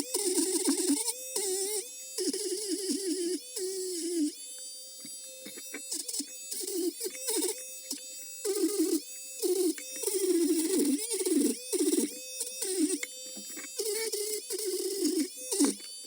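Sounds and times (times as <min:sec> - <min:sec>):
rotary tool whining: 0:00.0 - 0:16.0.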